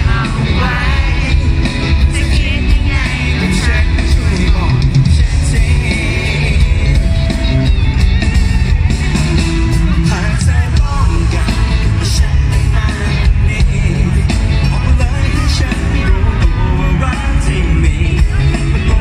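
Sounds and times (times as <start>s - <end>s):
person singing: 0.0s - 7.7s, 9.6s - 19.0s
live pop band playing: 0.0s - 19.0s.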